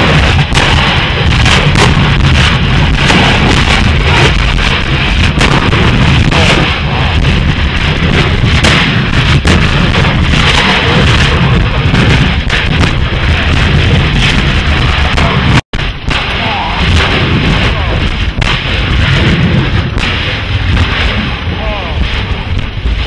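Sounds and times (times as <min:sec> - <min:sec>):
loud rushing rumble: 0:00.0 - 0:23.0
sharp explosive booms: 0:00.0 - 0:23.0.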